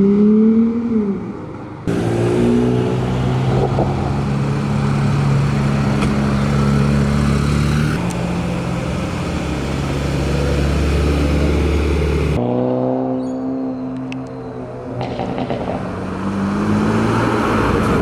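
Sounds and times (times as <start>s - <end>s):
car engines running at low speed: 0.0s - 12.7s, 13.7s - 18.0s.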